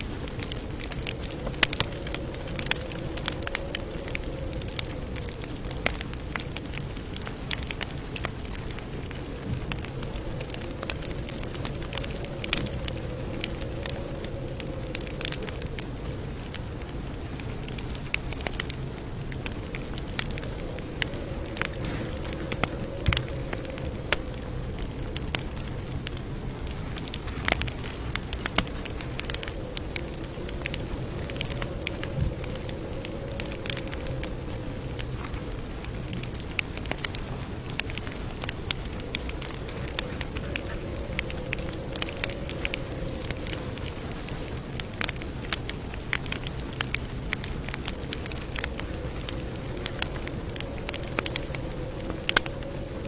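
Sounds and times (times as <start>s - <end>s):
campfire crackling and popping: 0.0s - 53.0s
faint wavering hum: 0.0s - 53.0s
low rumble: 0.0s - 53.0s.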